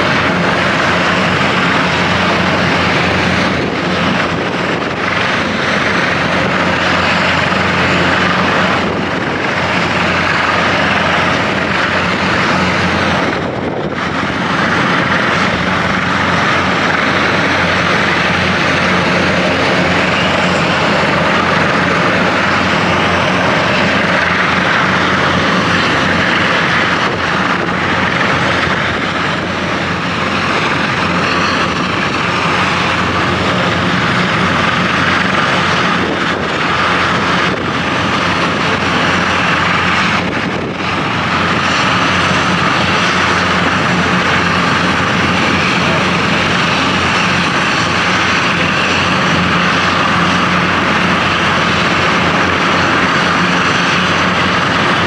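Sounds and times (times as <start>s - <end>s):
helicopter turbine and rotor noise: 0.0s - 55.0s.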